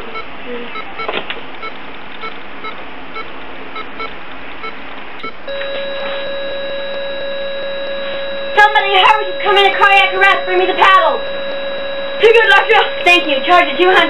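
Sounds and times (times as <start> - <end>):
heart monitor beeping: 0.0 - 14.0
heart monitor continuous tone: 0.0 - 14.0.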